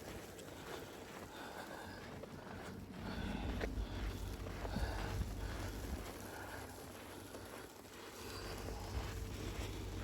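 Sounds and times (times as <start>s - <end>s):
footsteps in snow: 0.0s - 10.0s.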